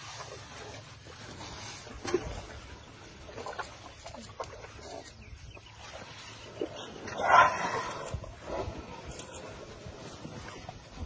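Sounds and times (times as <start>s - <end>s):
elephants crunching food: 0.0s - 11.0s.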